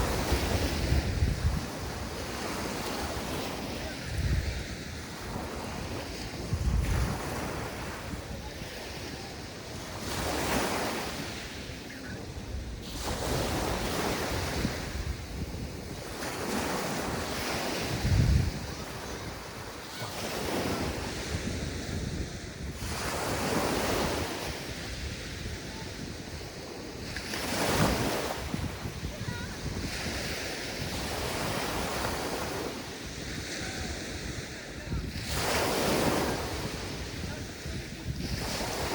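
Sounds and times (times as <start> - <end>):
sea waves breaking on shore: 0.0 - 38.9
wind buffeting microphone: 0.0 - 38.9.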